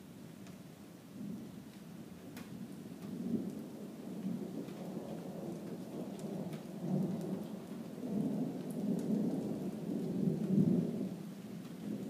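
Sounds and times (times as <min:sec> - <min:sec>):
rain falling: 0:00.2 - 0:12.0.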